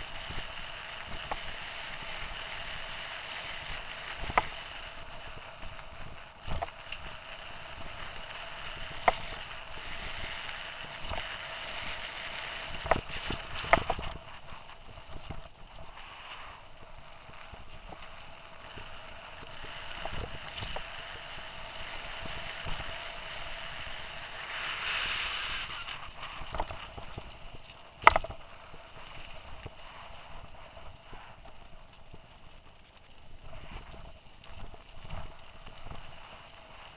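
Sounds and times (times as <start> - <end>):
bike tyres rushing hiss: 0.0 - 14.8, 15.8 - 31.4
bike rattles and clicks: 0.0 - 16.2, 16.9 - 32.8.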